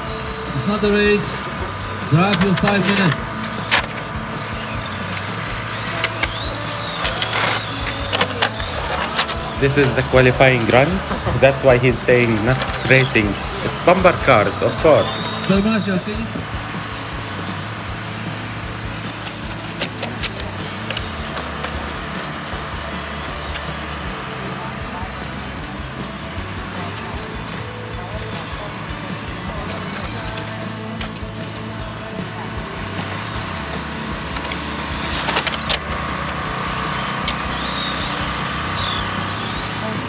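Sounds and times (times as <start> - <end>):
rc cars whirring: 0.0 - 40.0
rising and falling whines: 0.0 - 40.0.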